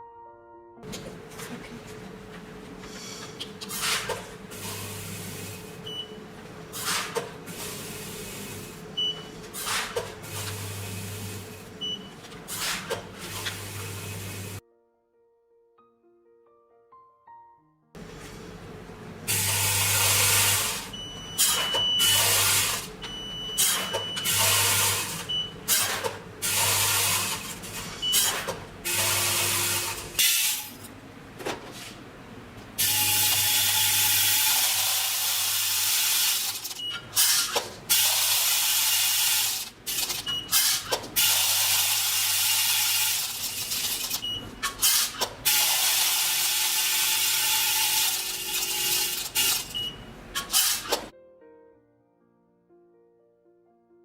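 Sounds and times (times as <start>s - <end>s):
filling machine motor hum: 0.9s - 12.2s, 13.0s - 14.6s, 18.0s - 31.4s, 32.0s - 44.7s, 45.4s - 51.1s.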